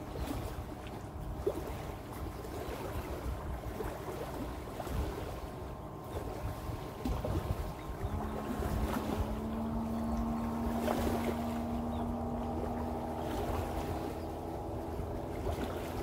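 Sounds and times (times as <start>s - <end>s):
distant motorboat engine droning: 0.0s - 16.0s
small waves on shore: 0.0s - 16.0s
wind on microphone: 0.0s - 16.0s.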